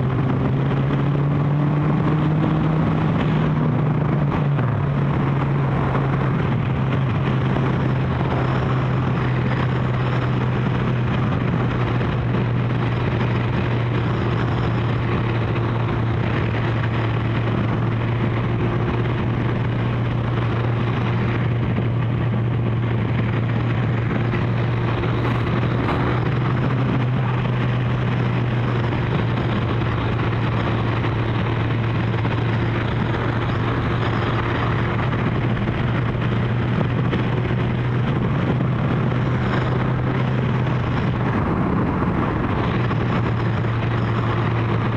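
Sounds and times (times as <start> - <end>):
motorcycle engine cruising: 0.0 - 44.9
wind rushing: 0.0 - 44.9.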